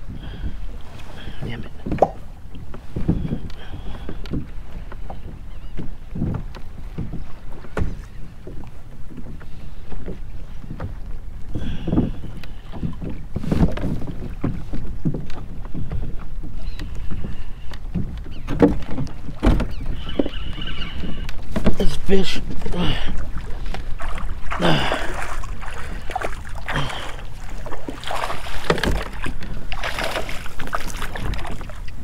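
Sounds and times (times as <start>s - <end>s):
small waves slapping hull: 0.0s - 32.0s
wind on microphone: 0.0s - 32.0s.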